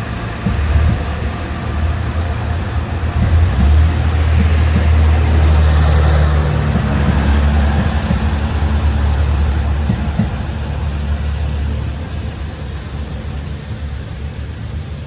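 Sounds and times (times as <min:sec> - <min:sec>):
train diesel engine running: 0:00.0 - 0:15.0.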